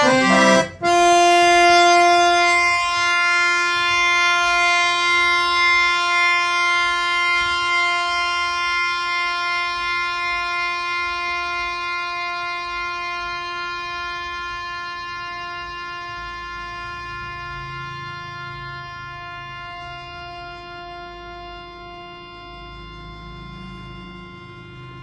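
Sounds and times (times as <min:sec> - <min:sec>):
harmonium holding one note: 0:00.0 - 0:25.0.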